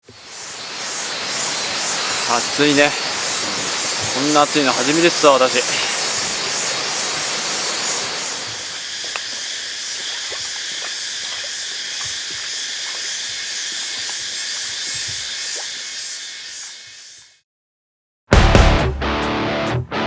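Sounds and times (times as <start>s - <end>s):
insects droning: 0.0s - 17.4s.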